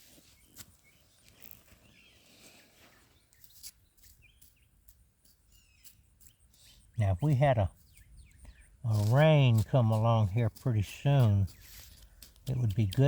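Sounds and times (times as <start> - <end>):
distant bird chirps: 0.2 - 13.0.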